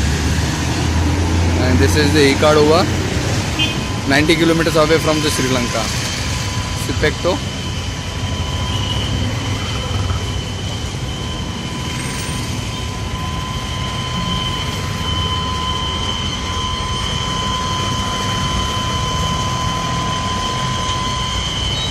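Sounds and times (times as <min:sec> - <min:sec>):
constant high-pitched whine: 0:00.0 - 0:21.9
engines idling low rumble: 0:00.0 - 0:21.9.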